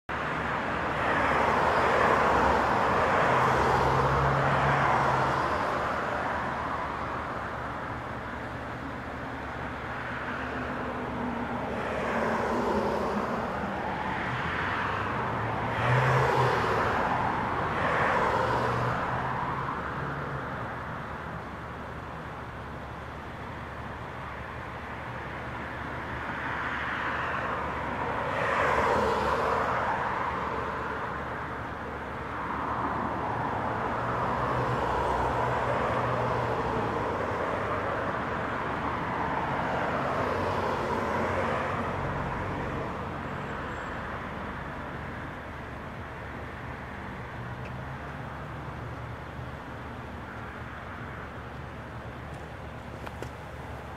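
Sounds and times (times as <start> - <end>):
cars passing: 0.1 - 53.9.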